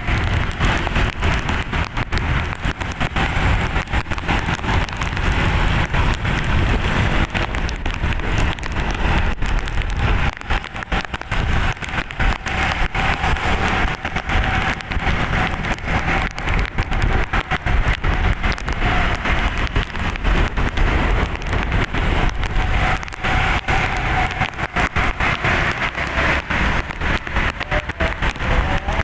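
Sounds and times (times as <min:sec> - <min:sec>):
constant crackle: 0:00.0 - 0:29.0
rough road vehicle noise: 0:00.0 - 0:29.0.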